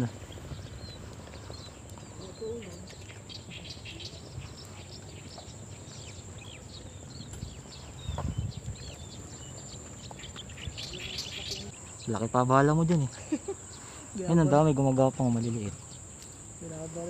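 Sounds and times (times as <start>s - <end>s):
insect chirps: 0.0s - 17.0s
insect drone: 0.0s - 17.0s.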